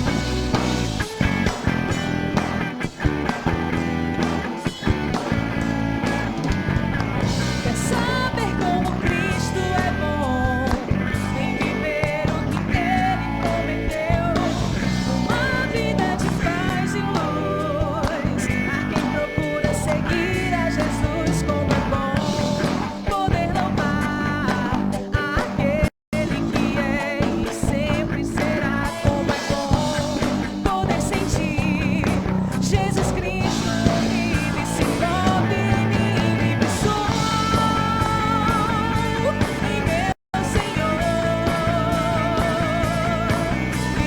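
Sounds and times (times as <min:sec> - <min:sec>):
bass guitar: 0:00.0 - 0:44.0
drum kit: 0:00.0 - 0:44.0
electric guitar: 0:00.0 - 0:44.0
person singing with vibrato: 0:07.6 - 0:44.0.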